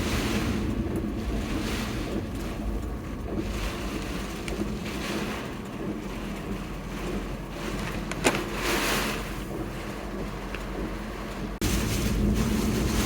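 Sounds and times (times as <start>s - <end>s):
rushing noise: 0.0s - 9.3s, 11.6s - 13.0s
steady engine hum: 0.0s - 13.0s.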